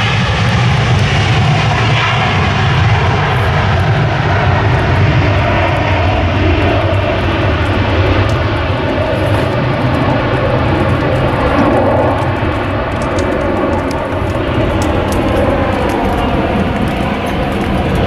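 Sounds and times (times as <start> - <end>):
jet engines roaring at takeoff: 0.0 - 18.0.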